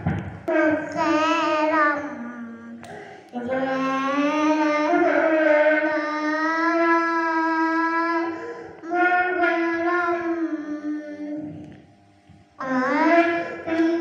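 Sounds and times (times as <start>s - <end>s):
boy singing unaccompanied: 0.5s - 11.7s, 12.6s - 14.0s.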